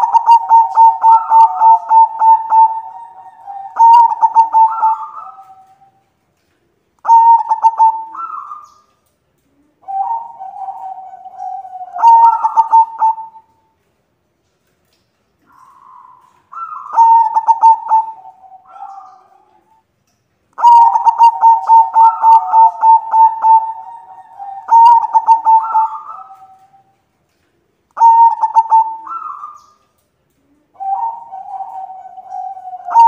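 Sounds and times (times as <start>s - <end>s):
dove cooing: 0.0s - 6.0s, 7.0s - 13.6s, 15.4s - 19.8s, 20.6s - 27.0s, 28.0s - 33.0s.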